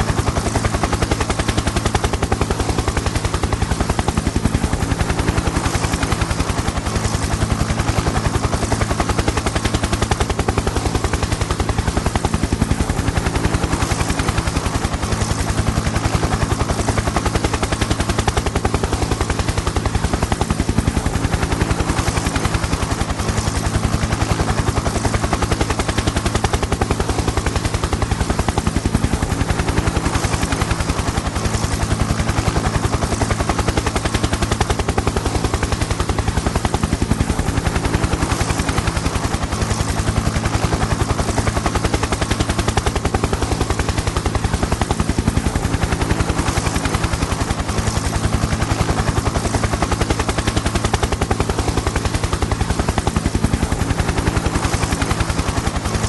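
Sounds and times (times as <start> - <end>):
helicopter engine drone: 0.0 - 56.0
helicopter rotor blades chopping: 0.0 - 56.0.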